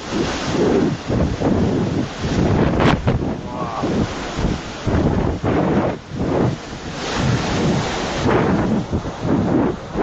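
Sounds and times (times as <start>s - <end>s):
storm wind buffeting microphone: 0.0s - 10.0s.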